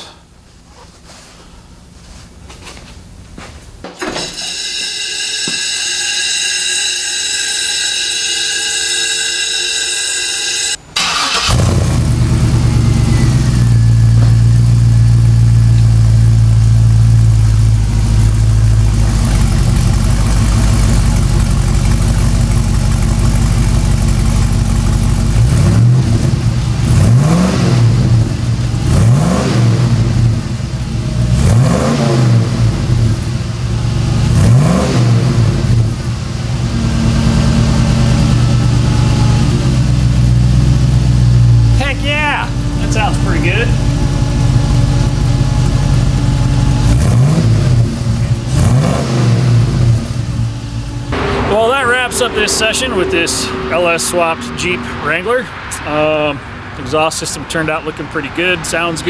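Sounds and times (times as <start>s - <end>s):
engine idling and revving: 11.0s - 59.0s.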